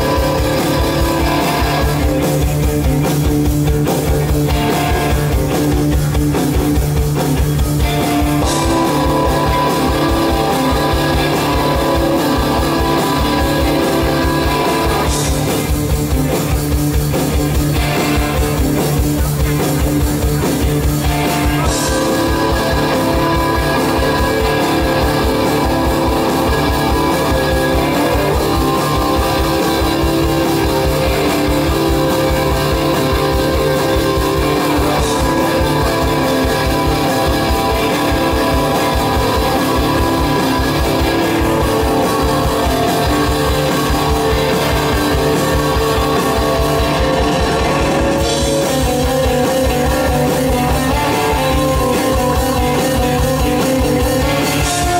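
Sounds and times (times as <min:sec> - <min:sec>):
electric guitars: 0:00.0 - 0:54.9
fast drum beat: 0:00.0 - 0:54.9.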